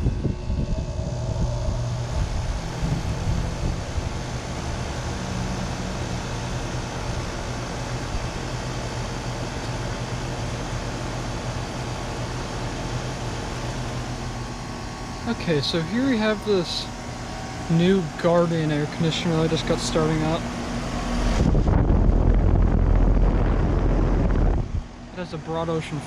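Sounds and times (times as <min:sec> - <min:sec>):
air conditioner compressor hum: 0:00.0 - 0:26.0
condenser fan air rush: 0:00.0 - 0:26.0.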